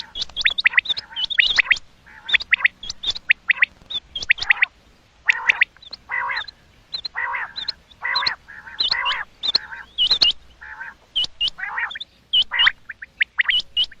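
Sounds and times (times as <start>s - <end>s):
quail high whistled calls: 0.0s - 14.0s
raspy nasal quail notes: 0.0s - 14.0s.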